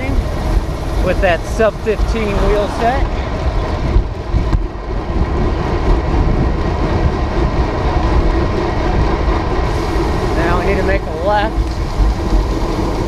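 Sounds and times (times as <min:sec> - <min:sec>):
tyre noise on asphalt: 0:00.0 - 0:13.0
wind rumble on microphone: 0:00.0 - 0:13.0.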